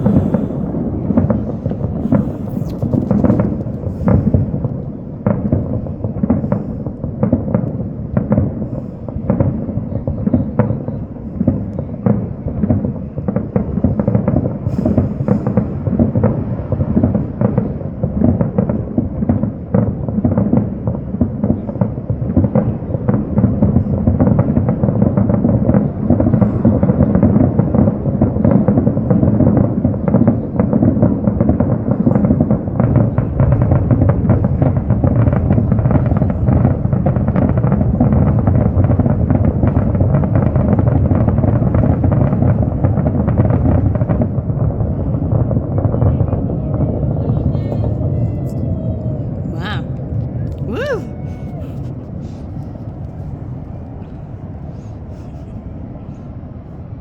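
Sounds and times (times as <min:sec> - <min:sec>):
fireworks barrage: 0:00.0 - 0:56.6.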